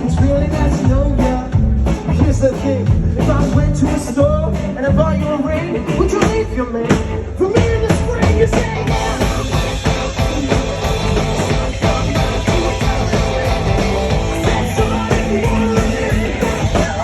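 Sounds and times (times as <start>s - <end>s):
drum kit beat: 0.0s - 17.0s
live rock band playing: 0.0s - 17.0s.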